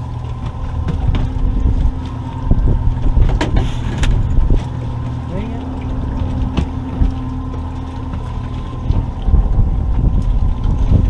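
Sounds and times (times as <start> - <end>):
boat motor running: 0.0 - 11.0
wind buffeting microphone: 0.0 - 11.0.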